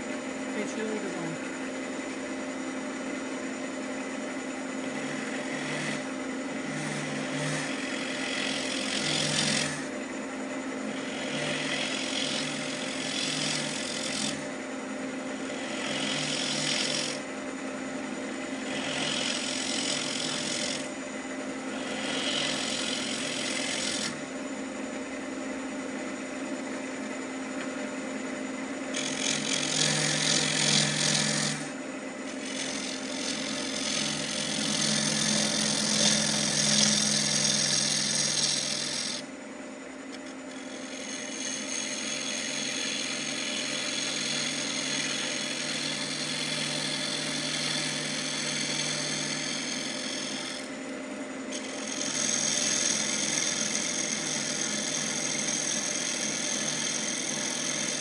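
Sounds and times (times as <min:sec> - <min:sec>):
turning tool cutting spinning wood: 0:00.0 - 0:58.0
wood lathe motor hum: 0:00.0 - 0:58.0.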